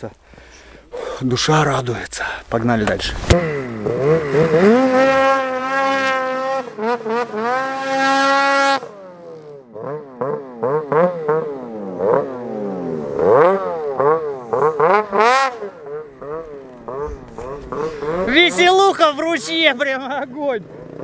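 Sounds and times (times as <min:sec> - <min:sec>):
snowmobile engine revving: 0:03.0 - 0:21.0.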